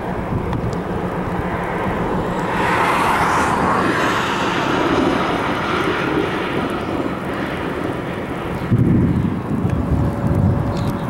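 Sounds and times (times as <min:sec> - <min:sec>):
car passing: 0:00.0 - 0:10.8
wind rushing: 0:00.0 - 0:10.8.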